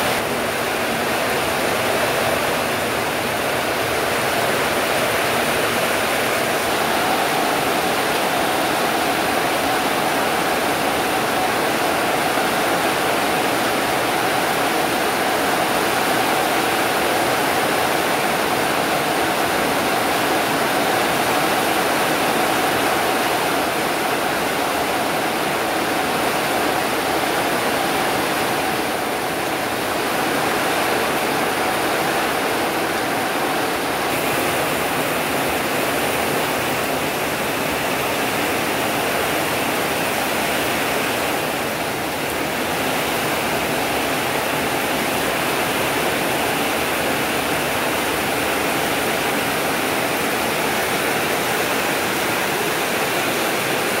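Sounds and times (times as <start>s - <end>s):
heavy rain on roofs and trees: 0.0s - 54.0s.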